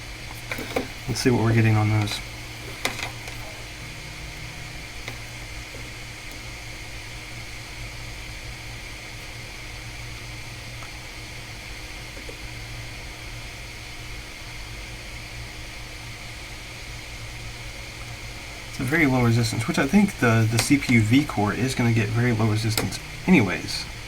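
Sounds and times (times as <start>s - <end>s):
fan-like hiss: 0.0s - 24.0s
low electrical hum: 0.0s - 24.0s.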